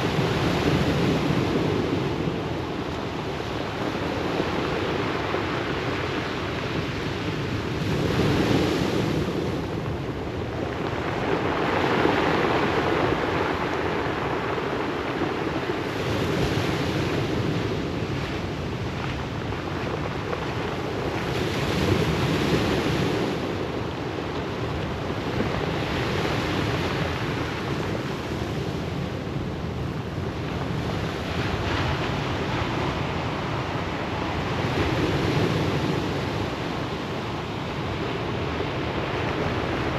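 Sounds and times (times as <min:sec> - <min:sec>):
surf washing on pebble beach: 0:00.0 - 0:39.9.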